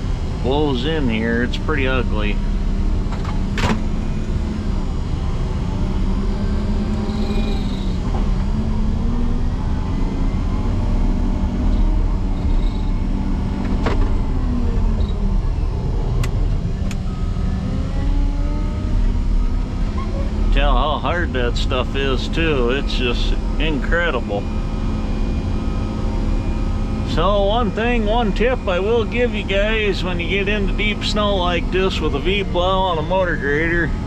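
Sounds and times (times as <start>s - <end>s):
diesel engine under heavy load: 0.0s - 34.0s.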